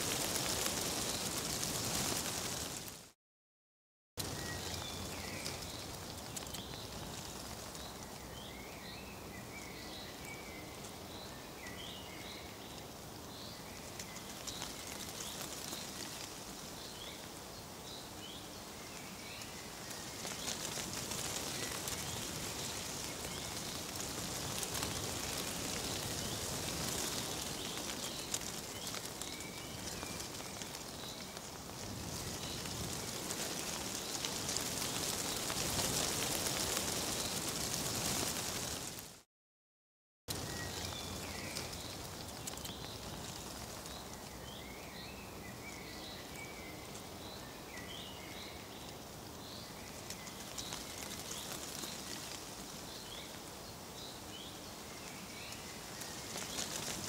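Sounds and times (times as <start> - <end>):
leaves rustling in breeze: 0.0 - 3.2, 4.2 - 39.3, 40.3 - 57.0
small birds chirping: 4.2 - 38.8, 40.3 - 57.0.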